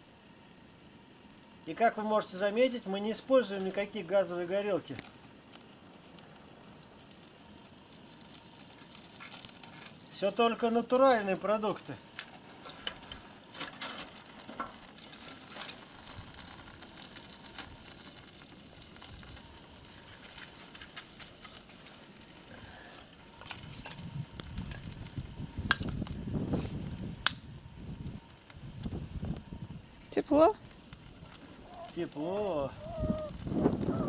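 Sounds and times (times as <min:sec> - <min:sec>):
low rumble of stove: 0:00.0 - 0:34.0
kindling crackling and popping: 0:00.4 - 0:34.0.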